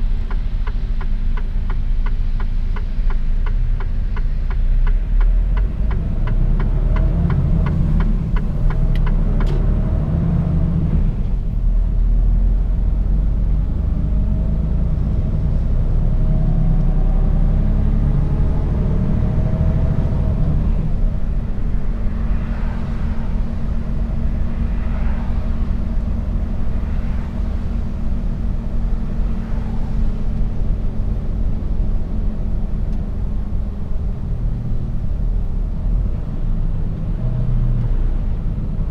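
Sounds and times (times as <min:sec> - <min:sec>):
truck diesel engine rumble: 0:00.0 - 0:38.9.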